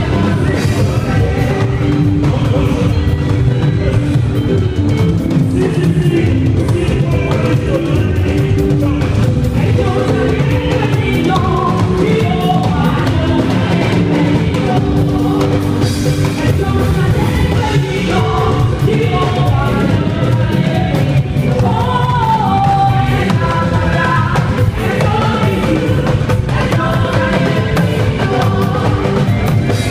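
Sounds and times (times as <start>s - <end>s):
drum beat with instruments: 0.0s - 29.9s
voices singing: 0.0s - 29.9s.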